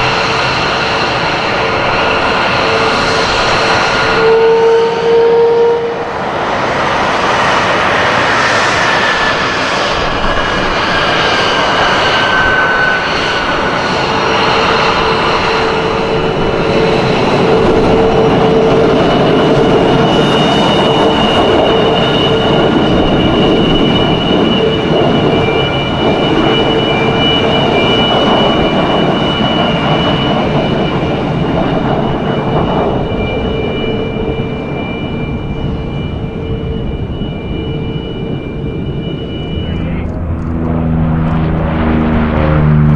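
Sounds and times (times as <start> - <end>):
jet engine whines: 0.0 - 42.9
jet engines roaring: 0.0 - 42.9.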